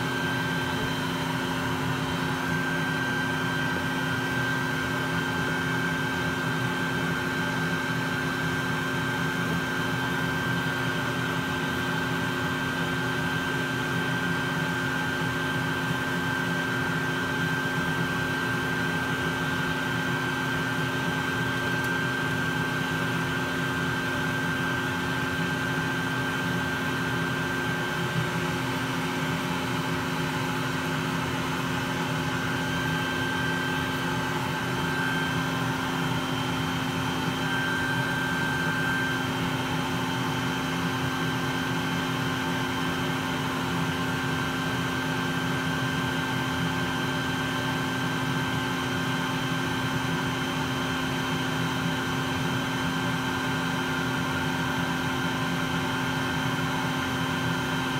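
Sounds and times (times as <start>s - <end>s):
vacuum motor whine: 0.0s - 57.9s.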